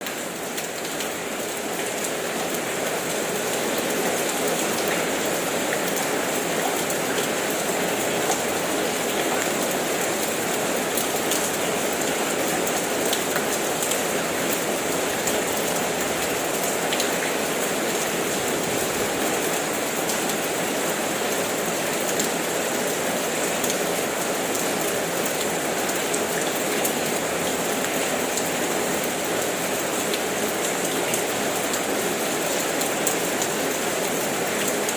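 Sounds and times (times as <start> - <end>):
steady rain with dripping: 0.0 - 34.9.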